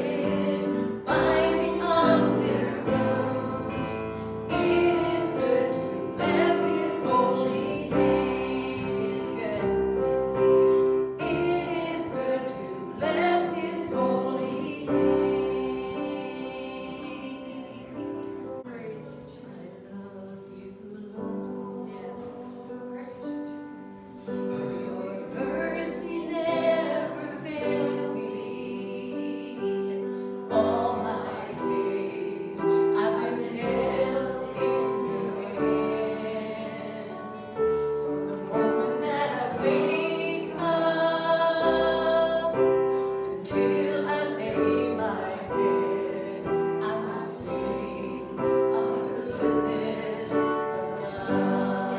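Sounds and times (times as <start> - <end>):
church singing: 0.0 - 51.9
piano accompaniment: 0.0 - 51.9.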